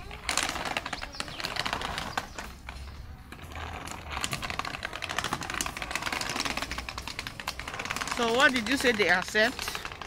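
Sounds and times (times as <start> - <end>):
plastic wheels rattling over paving: 0.0 - 10.0.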